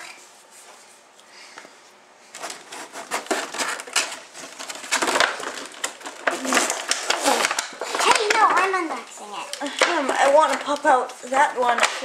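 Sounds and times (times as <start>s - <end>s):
plastic packaging crinkling: 2.4s - 12.0s.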